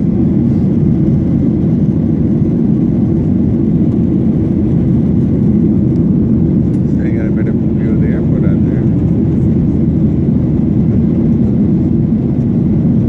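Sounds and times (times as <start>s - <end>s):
aircraft cabin engine roar: 0.0s - 13.0s.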